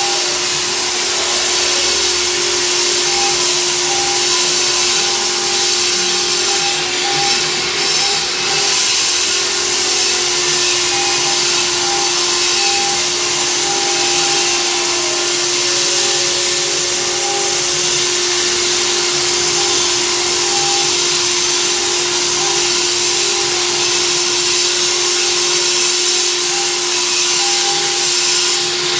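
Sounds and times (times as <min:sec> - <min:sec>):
higher tone: 0:00.0 - 0:25.5
router machine running: 0:00.0 - 0:28.9.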